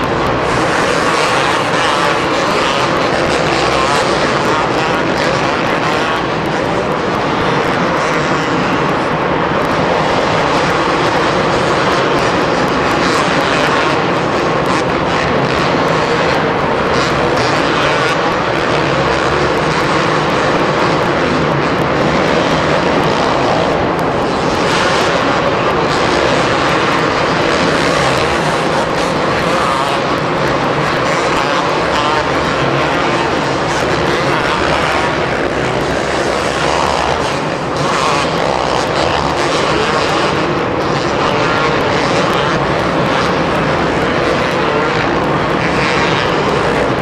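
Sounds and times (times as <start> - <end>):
dirt bike engines blaring: 0.0 - 47.0.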